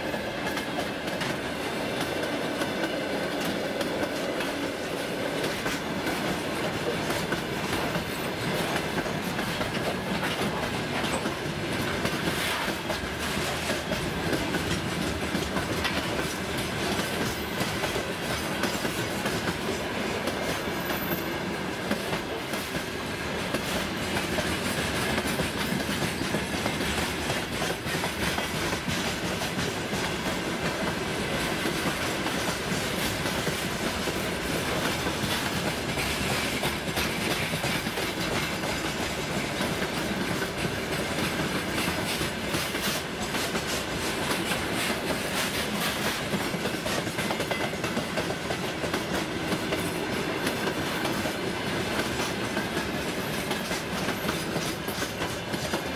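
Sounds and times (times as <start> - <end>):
train running gear rumble: 0.0 - 55.9.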